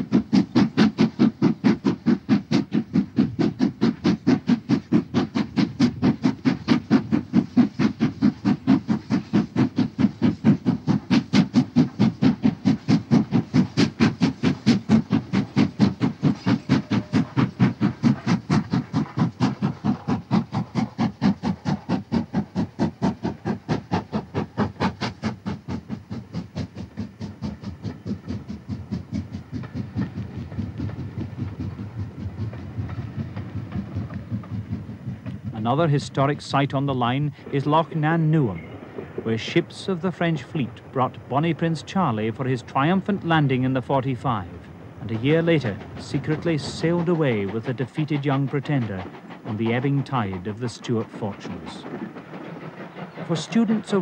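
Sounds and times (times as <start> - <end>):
steam locomotive chuffing: 0.0 - 54.0.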